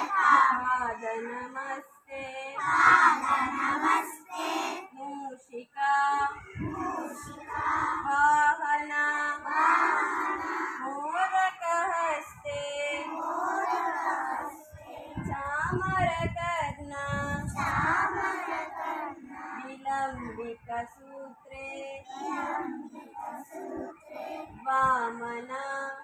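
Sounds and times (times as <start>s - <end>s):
children singing in unison: 0.0s - 1.8s, 2.5s - 5.0s, 6.2s - 12.0s, 12.9s - 16.0s, 17.0s - 20.6s, 21.7s - 25.8s.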